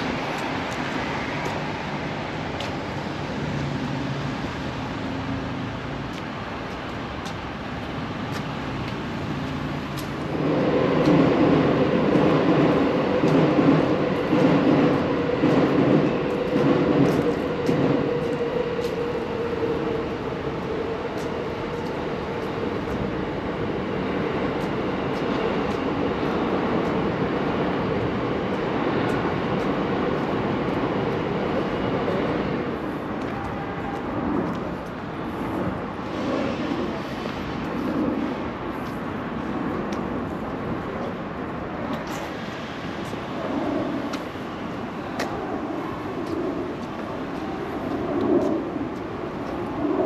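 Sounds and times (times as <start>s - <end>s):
traffic noise: 0.0s - 50.0s.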